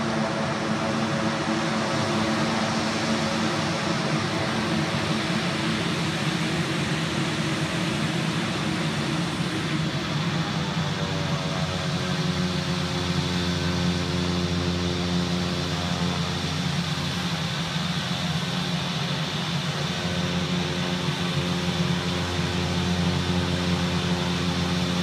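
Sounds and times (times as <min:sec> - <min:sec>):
turboprop engines running: 0:00.0 - 0:25.0.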